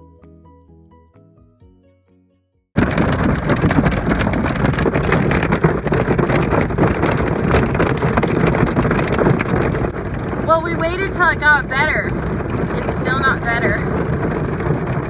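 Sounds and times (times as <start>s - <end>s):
rain and hail on a car roof: 2.8s - 15.0s.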